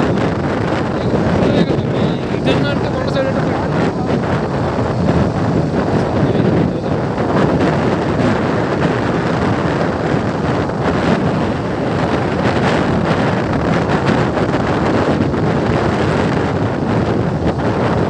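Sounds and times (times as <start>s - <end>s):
vehicle and road noise: 0.0s - 18.0s
wind buffeting microphone: 0.0s - 18.0s.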